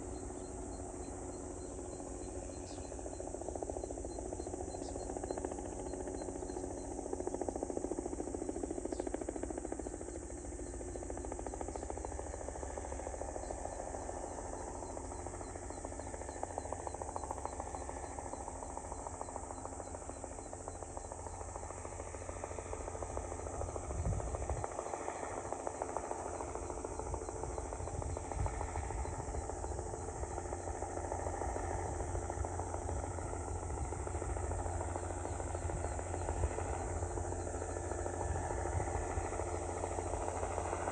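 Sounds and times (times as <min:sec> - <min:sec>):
insects chirring with fast ticking: 0:00.0 - 0:40.9
low steady rumble: 0:00.0 - 0:40.9.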